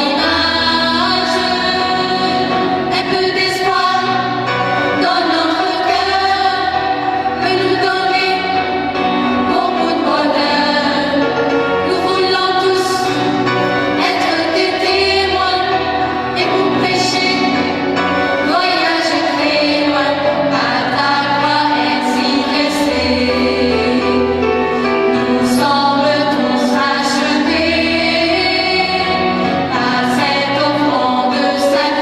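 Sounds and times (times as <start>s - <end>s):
choir singing a hymn: 0.0s - 32.0s
organ accompaniment: 0.0s - 32.0s.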